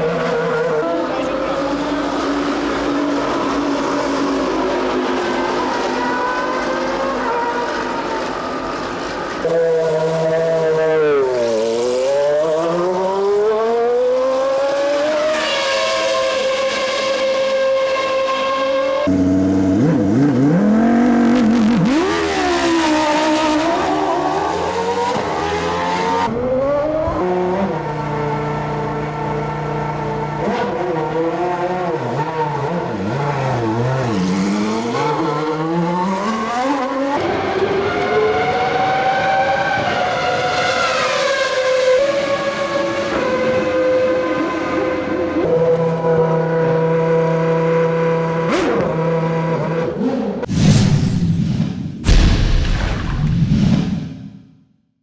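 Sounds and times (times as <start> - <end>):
race car engines at high revs: 0.0 - 50.5.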